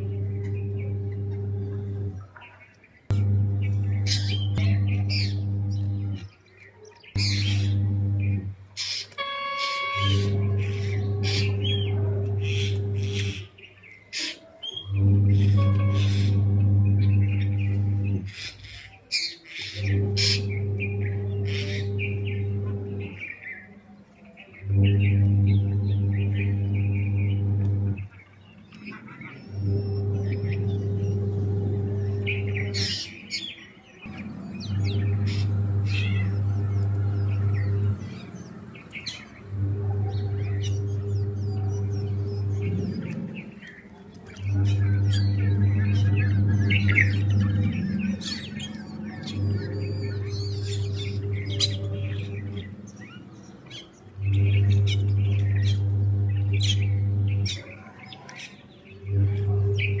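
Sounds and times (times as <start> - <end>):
steady low hum: 0.0 - 6.4, 7.0 - 13.7, 14.7 - 18.5, 19.8 - 23.3, 24.5 - 33.2, 34.0 - 57.8, 58.9 - 60.0
small birds chirping: 0.0 - 60.0.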